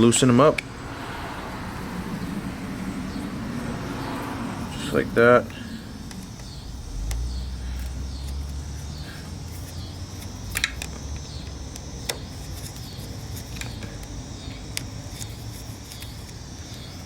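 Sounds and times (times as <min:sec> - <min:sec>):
low background rumble: 0:00.0 - 0:15.8.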